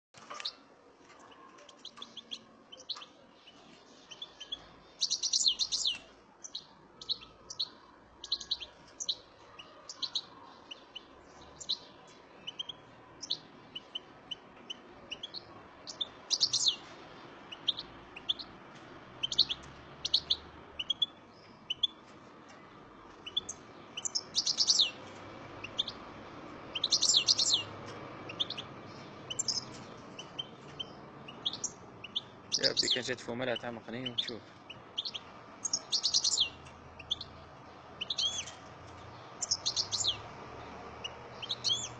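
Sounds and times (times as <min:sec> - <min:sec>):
goldfinch chirping and trilling: 0:01.3 - 0:16.9, 0:17.5 - 0:18.5, 0:19.2 - 0:22.0, 0:23.2 - 0:25.0, 0:25.6 - 0:26.0, 0:26.7 - 0:37.4, 0:38.0 - 0:41.9.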